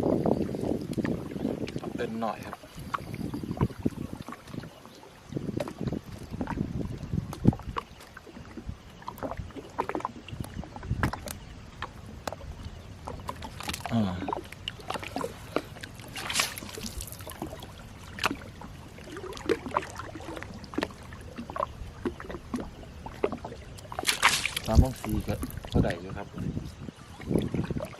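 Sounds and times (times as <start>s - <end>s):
knocks and clunks on boat: 0.0s - 27.9s
water splashes: 0.0s - 27.9s.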